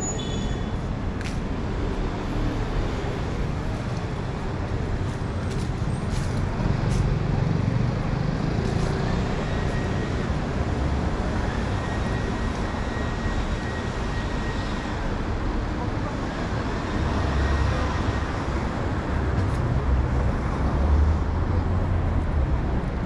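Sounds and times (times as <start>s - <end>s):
hum of passing cars: 0.8s - 23.0s.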